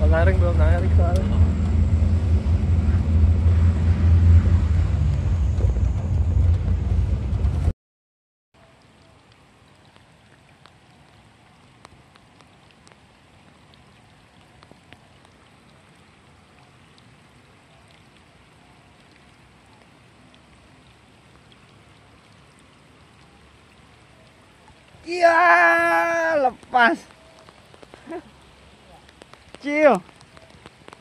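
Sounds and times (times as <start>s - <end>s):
light rain on water: 0.0s - 7.7s, 8.6s - 31.0s.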